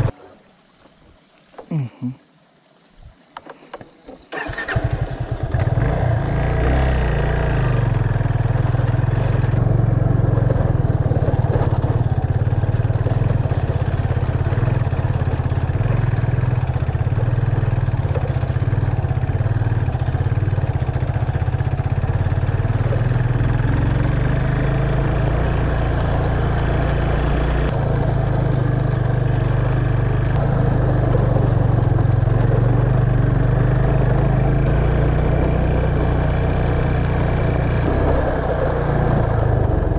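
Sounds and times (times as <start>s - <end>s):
motorcycle engine running: 4.4s - 39.9s.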